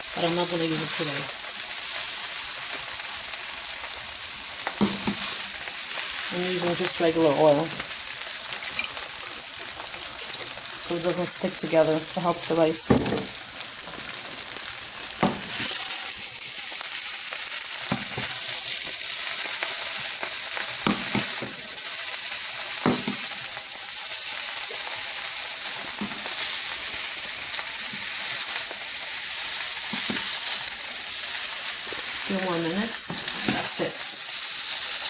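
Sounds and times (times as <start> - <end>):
rice sizzling in hot oil: 0.0 - 35.0.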